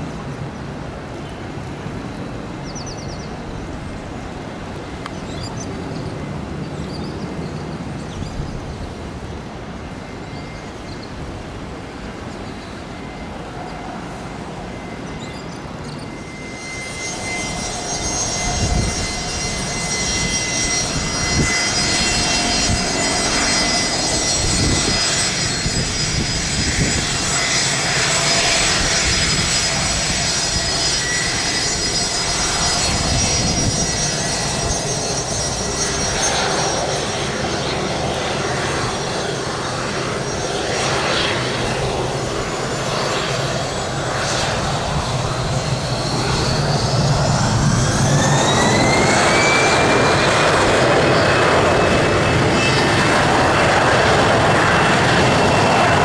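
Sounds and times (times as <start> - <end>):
airliner engines whining: 0.0 - 56.0.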